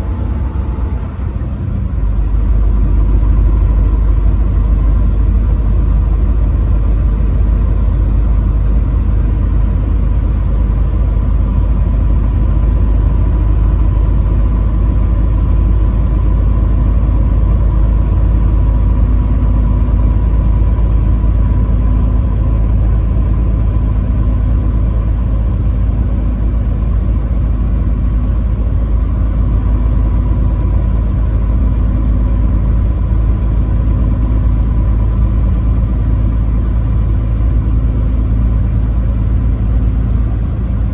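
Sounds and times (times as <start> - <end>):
road noise: 0.0 - 40.9
truck engine rumble: 0.0 - 40.9.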